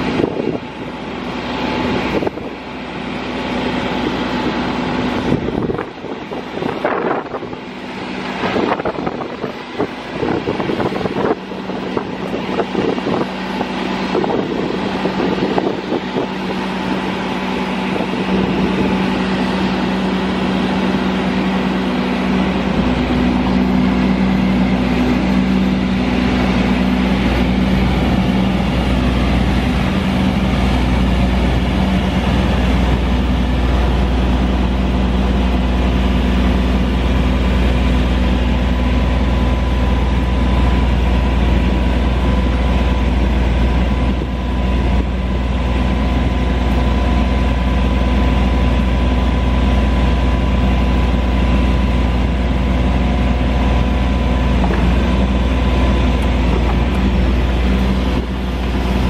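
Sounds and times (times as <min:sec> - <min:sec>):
diesel engine running: 0:00.0 - 0:59.0
thin steady whine: 0:00.0 - 0:59.0.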